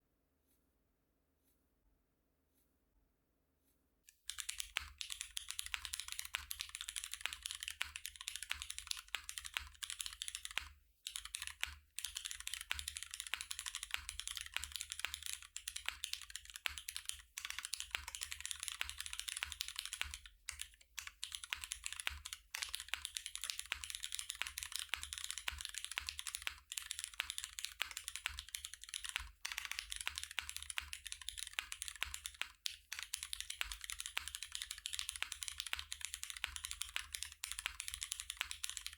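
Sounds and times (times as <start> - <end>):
mechanical keyboard typing: 4.1 - 38.9.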